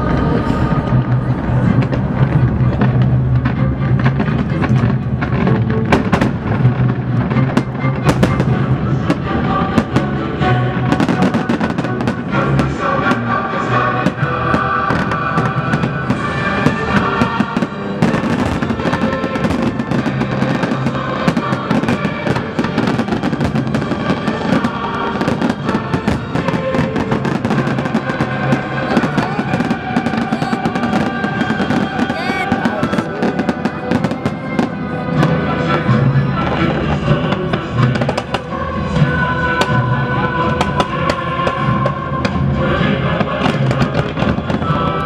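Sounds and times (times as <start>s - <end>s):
fireworks bangs and crackles: 0.0s - 45.0s
loud music: 0.0s - 45.0s.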